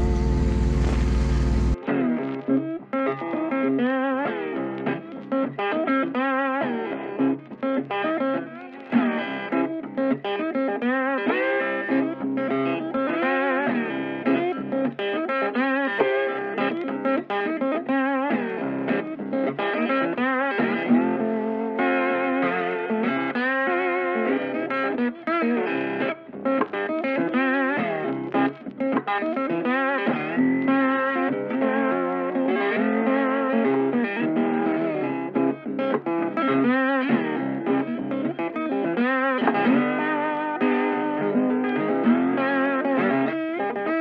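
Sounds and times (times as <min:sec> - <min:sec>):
guitar melody with bent notes: 0:00.0 - 0:44.0.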